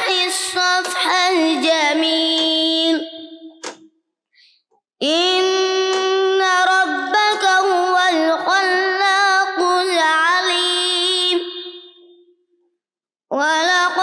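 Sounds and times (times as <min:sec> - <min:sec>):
boy reciting melodically: 0:00.0 - 0:03.8, 0:05.0 - 0:12.2, 0:13.3 - 0:14.0.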